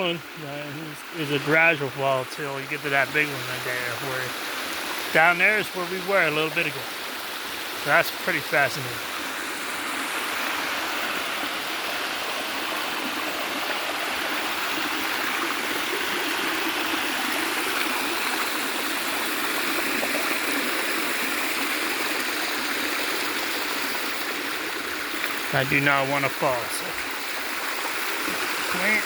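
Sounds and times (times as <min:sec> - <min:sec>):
waterfall cascading over rocks: 0:00.0 - 0:29.0.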